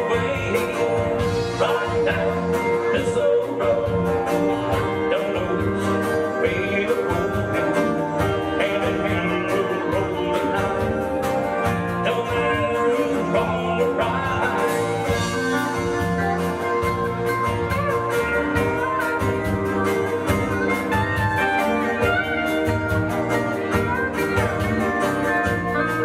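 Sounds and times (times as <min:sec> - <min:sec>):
live country band playing: 0:00.0 - 0:26.0.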